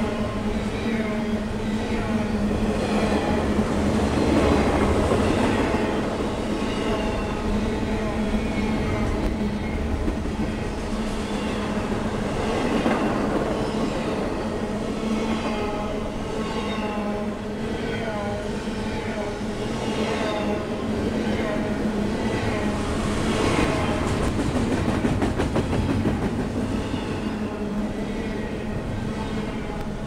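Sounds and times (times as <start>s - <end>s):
train wheels rushing on rail: 0.0s - 30.0s.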